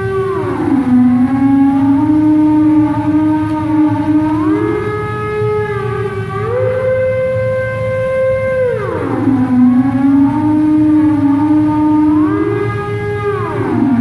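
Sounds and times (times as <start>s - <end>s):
steam whistle playing tune: 0.0s - 14.0s.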